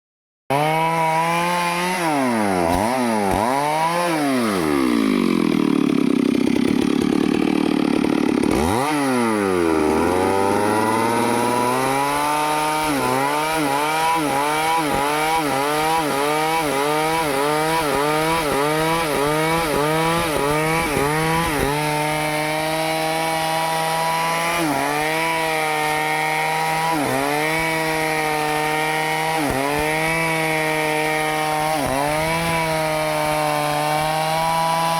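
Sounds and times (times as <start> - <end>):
chainsaw revving and cutting wood: 0.5 - 34.9.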